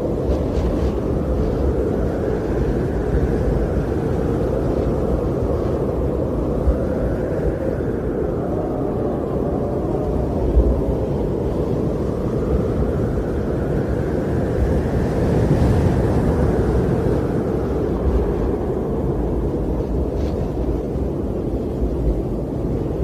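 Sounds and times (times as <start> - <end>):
strong wind rumbling: 0.0 - 23.0.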